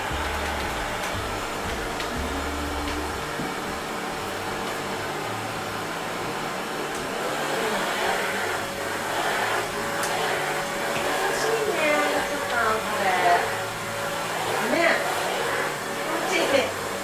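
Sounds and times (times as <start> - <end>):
vacuum motor hiss and whine: 0.0 - 17.0.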